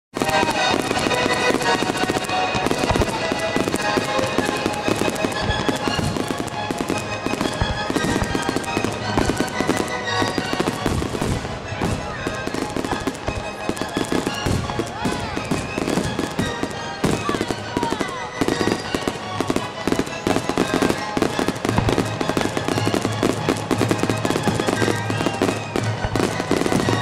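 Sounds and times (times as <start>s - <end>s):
fireworks bangs and crackles: 0.1s - 27.0s
music playing: 0.2s - 27.0s.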